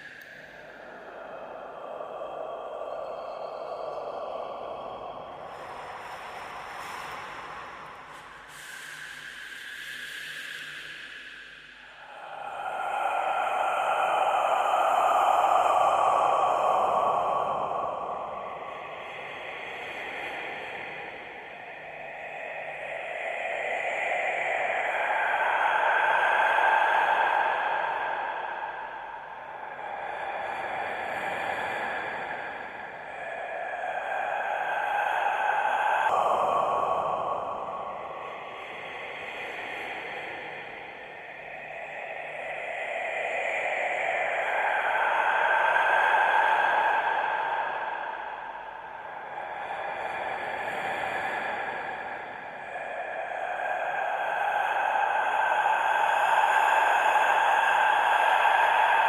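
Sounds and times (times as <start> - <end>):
eerie breathy whispering: 0.0 - 59.0.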